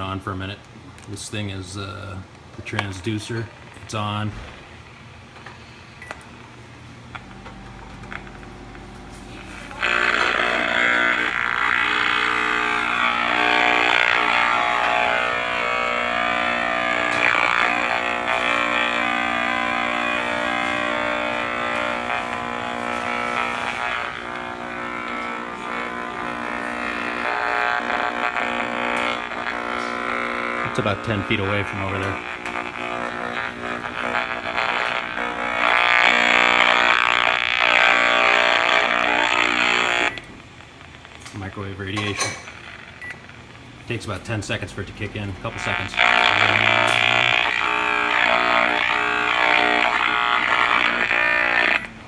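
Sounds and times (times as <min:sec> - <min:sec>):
harsh electrical buzz: 0:00.0 - 0:52.0.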